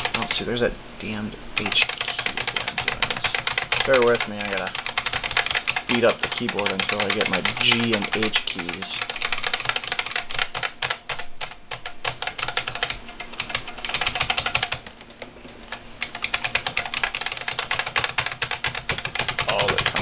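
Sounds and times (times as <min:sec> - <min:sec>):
keyboard keys clicking rapidly: 0:00.0 - 0:20.0.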